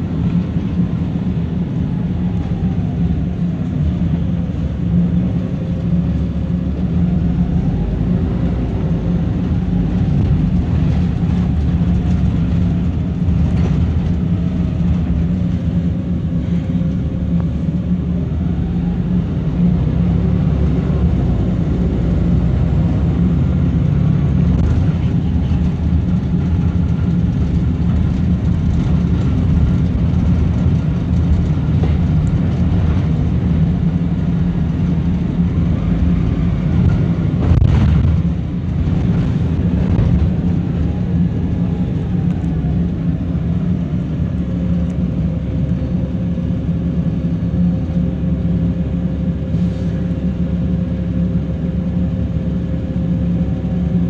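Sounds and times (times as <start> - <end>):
bus engine and road drone: 0.0 - 54.0.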